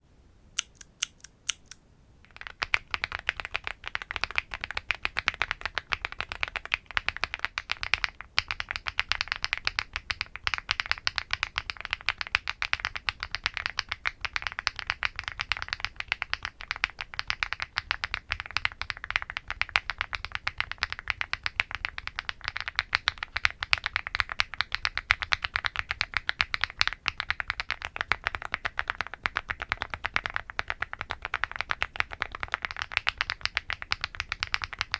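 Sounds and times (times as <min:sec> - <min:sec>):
mechanical keyboard typing: 0:00.6 - 0:34.9.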